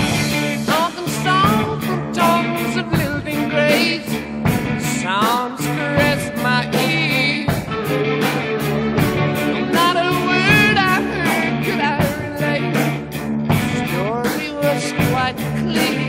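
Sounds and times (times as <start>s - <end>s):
rock music with singing: 0.0s - 16.0s.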